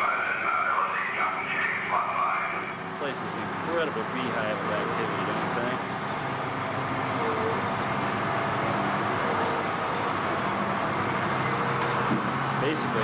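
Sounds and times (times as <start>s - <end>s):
steady mechanical roar: 0.0s - 13.0s.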